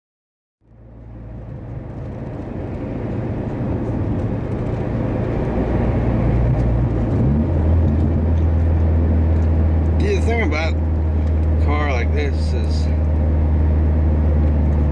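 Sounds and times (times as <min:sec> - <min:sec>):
car engine and road drone: 0:00.6 - 0:14.9.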